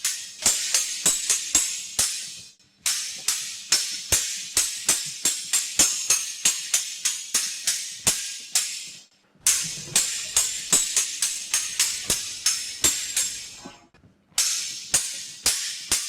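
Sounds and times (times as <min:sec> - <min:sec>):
steel swords clashing: 0:00.0 - 0:08.9, 0:09.5 - 0:13.7, 0:14.4 - 0:16.0.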